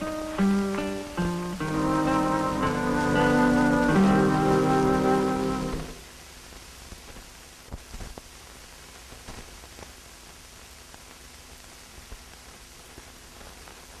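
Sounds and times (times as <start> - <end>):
film soundtrack hiss and crackle: 0.0 - 14.0.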